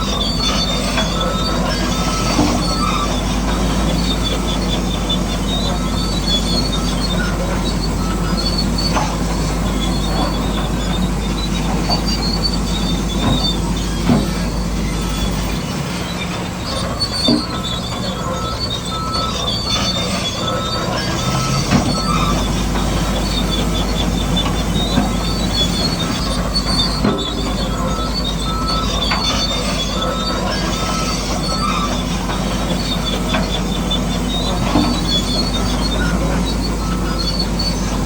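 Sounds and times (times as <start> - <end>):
bulldozer tracks squealing and clanking: 0.0 - 38.0.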